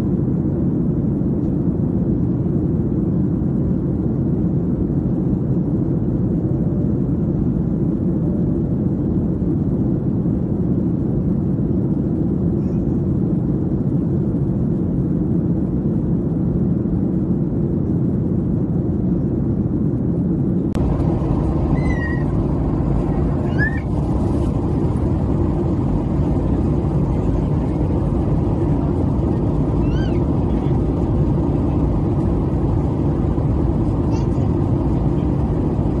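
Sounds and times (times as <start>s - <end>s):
aircraft cabin engine rumble: 0.0s - 36.0s.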